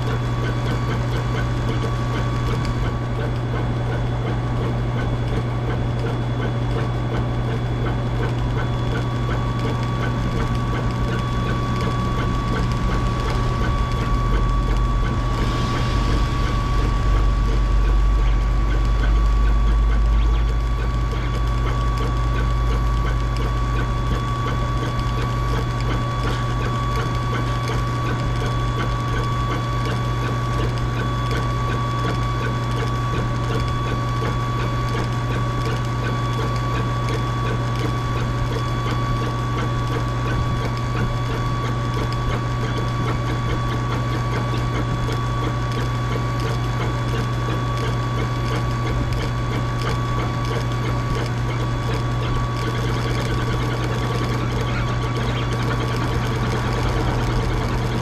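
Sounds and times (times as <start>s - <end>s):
steady low hum: 0.0s - 58.0s
fast mechanical ticking: 0.1s - 58.0s.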